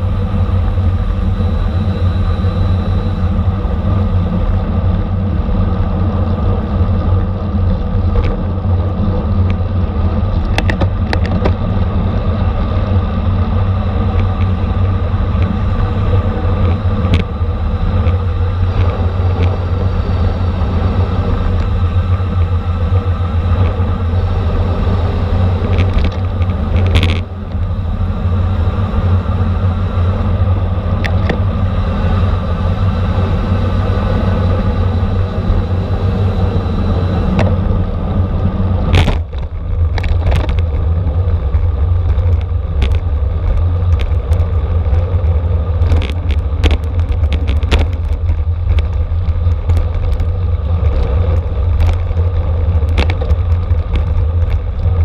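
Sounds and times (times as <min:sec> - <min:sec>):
bicycle road rumble: 0:00.0 - 0:55.0
wind: 0:00.0 - 0:55.0.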